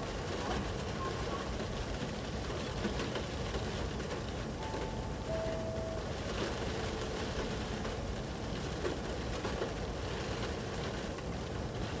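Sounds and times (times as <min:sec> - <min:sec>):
wind gusting through trees: 0:00.0 - 0:12.0.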